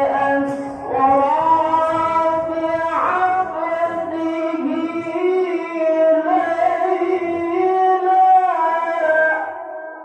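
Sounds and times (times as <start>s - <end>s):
man reciting melodically through microphone: 0.0s - 10.0s.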